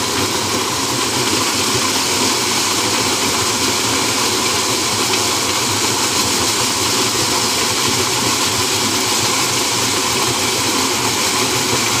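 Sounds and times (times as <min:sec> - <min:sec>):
maize sheller threshing cobs: 0:00.0 - 0:12.0.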